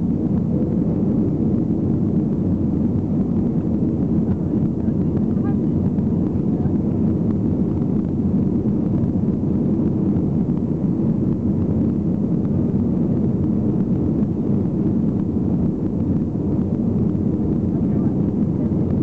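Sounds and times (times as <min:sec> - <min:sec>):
airliner engines roaring in cabin: 0:00.0 - 0:19.0.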